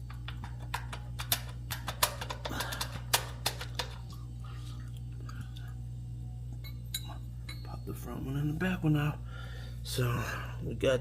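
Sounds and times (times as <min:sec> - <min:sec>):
low hum: 0:00.0 - 0:10.7.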